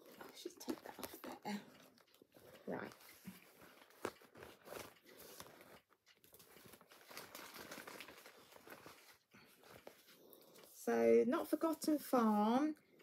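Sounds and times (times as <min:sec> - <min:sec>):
rustling and crinkling materials: 0:00.0 - 0:10.9.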